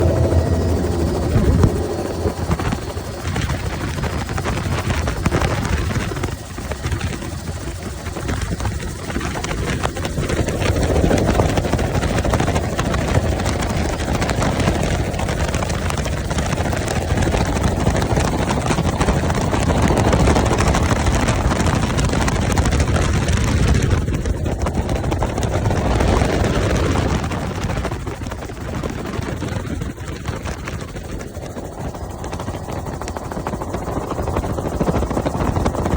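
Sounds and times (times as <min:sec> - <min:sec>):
helicopter engine and rotor: 0:00.0 - 0:35.9.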